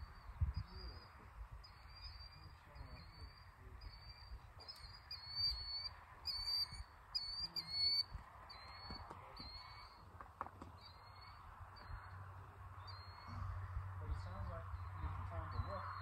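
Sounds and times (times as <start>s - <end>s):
small birds calling: 0.0s - 16.0s.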